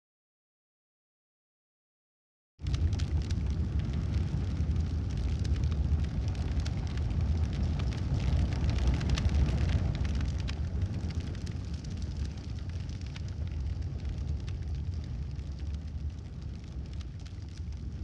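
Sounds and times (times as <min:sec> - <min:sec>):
fire crackling and popping: 0:02.6 - 0:18.0
low rumble of flames: 0:02.6 - 0:18.0.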